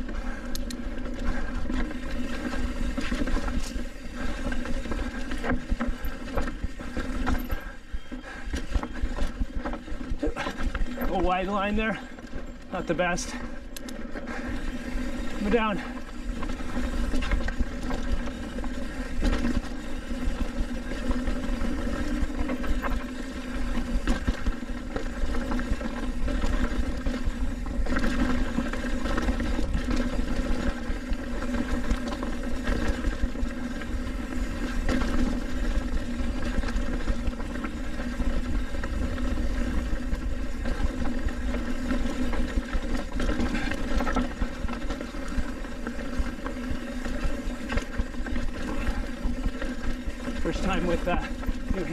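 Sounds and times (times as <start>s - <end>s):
bike knocking and rattling on rocks: 0.0s - 51.9s
bike tyres rumbling on dirt trail: 0.0s - 51.9s.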